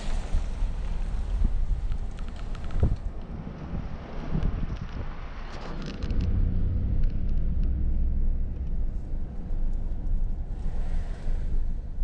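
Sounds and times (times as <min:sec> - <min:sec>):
car driving rumble from inside: 0:00.2 - 0:12.0.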